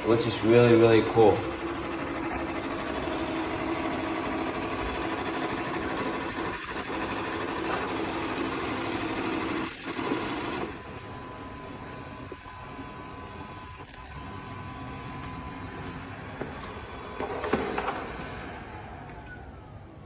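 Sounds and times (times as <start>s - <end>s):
robot vacuum whirring: 0.0s - 18.6s.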